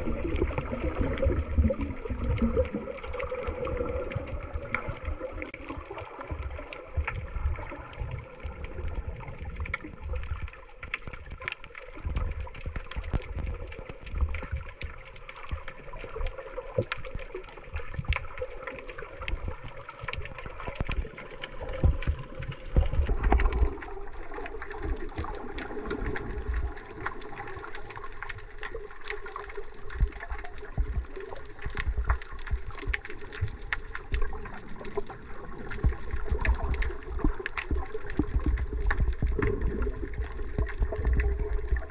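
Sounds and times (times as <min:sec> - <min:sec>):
water rush: 0:00.0 - 0:41.9.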